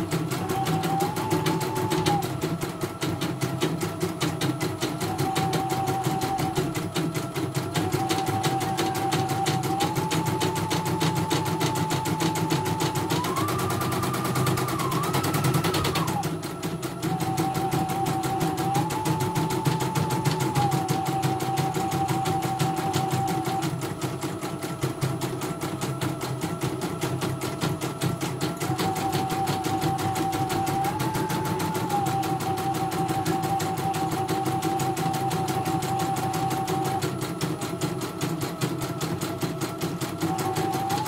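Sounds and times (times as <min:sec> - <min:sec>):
motor whine: 0:00.0 - 0:41.0.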